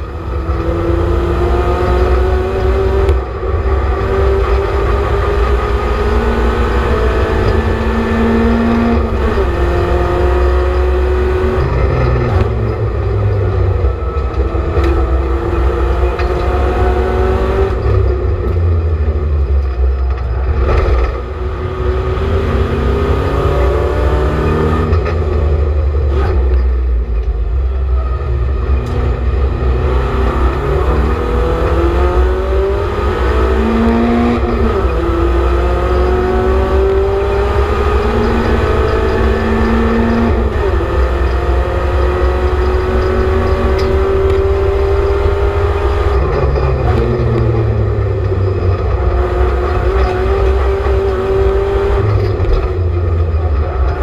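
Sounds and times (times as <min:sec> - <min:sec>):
race car engine accelerating: 0:00.0 - 0:26.9, 0:27.5 - 0:54.0
road and drivetrain rumble: 0:00.0 - 0:54.0.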